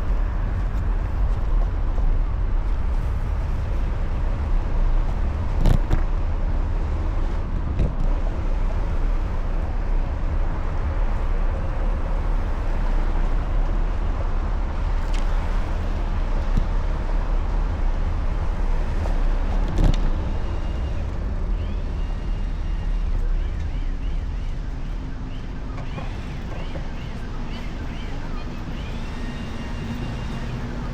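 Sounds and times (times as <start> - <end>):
traffic rumble: 0.0 - 30.9.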